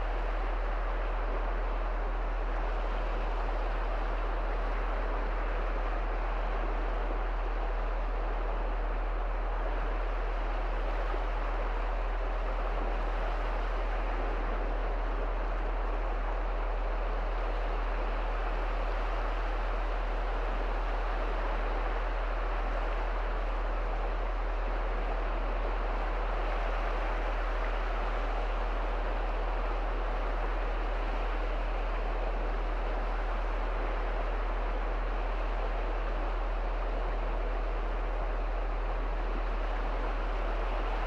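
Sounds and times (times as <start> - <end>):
wind: 0.0 - 41.0.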